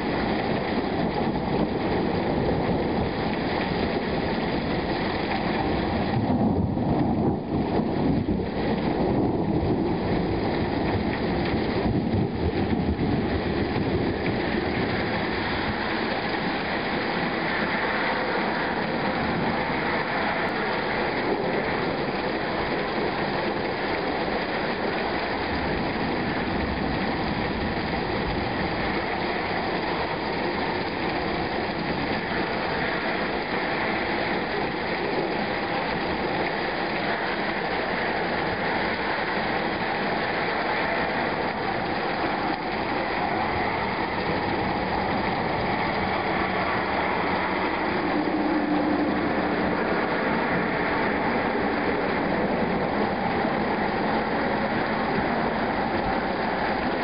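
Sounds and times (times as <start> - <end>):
steady rain: 0.0 - 57.0
thunder rumbling: 0.0 - 57.0.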